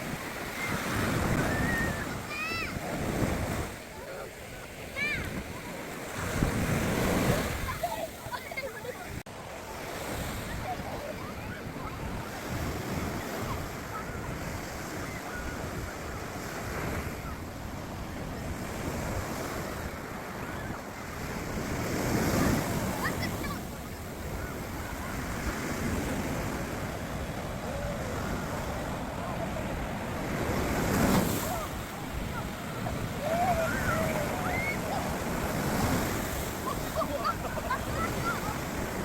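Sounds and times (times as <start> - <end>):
sea surf breaking on beach: 0.0 - 39.0.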